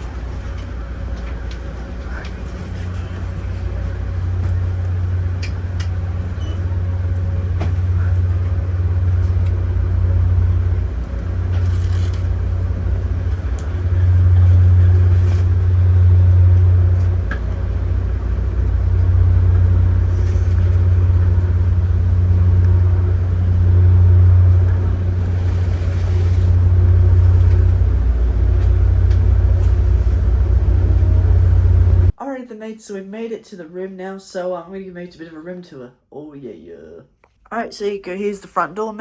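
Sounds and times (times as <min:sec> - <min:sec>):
vehicle rumble: 0:00.0 - 0:32.2.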